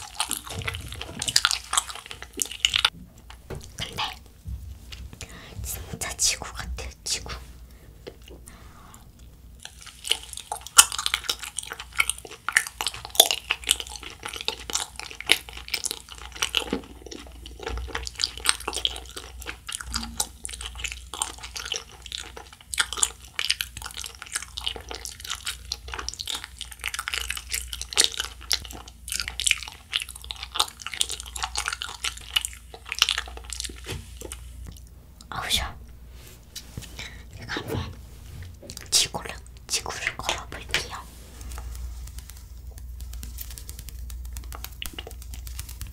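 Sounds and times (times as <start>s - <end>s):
wet chewing of gummy candy: 0.0s - 4.2s, 9.2s - 35.3s, 38.6s - 45.9s.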